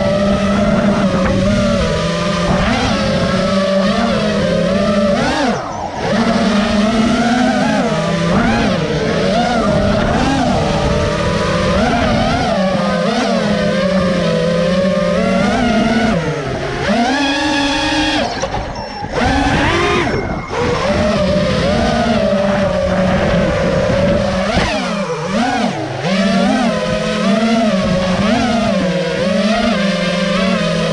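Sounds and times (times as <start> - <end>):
quadcopter motors whining: 0.0 - 30.9.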